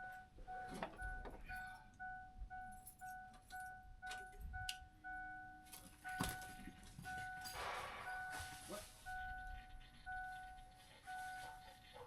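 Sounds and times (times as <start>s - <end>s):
dashboard warning chime: 0.0s - 11.8s.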